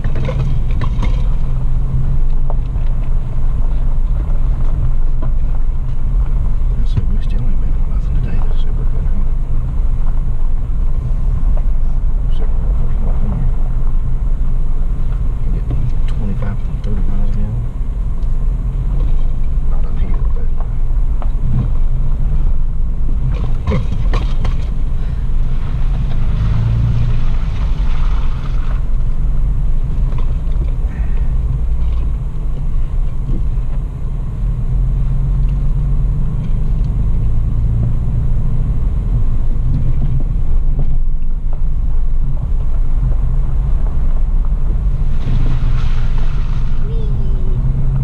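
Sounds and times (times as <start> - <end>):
engine rumbling inside vehicle: 0.0 - 48.0.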